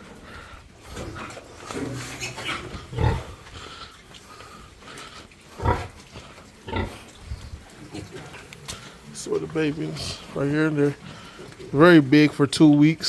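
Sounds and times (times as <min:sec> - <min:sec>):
pigs grunting: 0:00.0 - 0:12.6.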